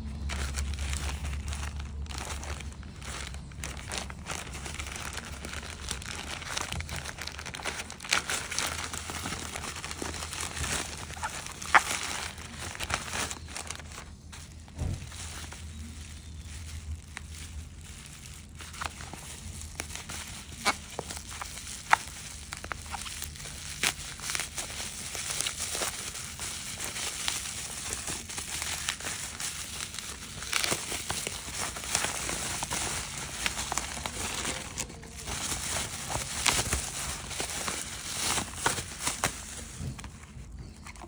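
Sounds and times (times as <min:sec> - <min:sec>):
bubble wrap crinkling: 0:00.0 - 0:41.0.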